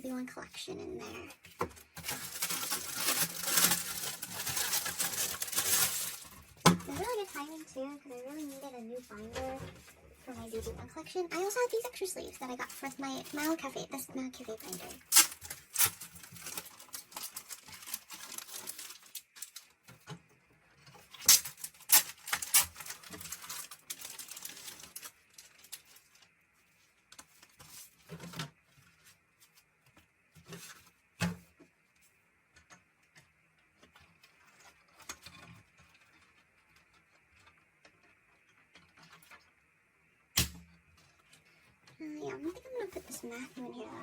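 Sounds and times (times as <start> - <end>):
plastic sleeves rustling: 0.0 - 32.2, 33.0 - 39.6, 40.8 - 44.0.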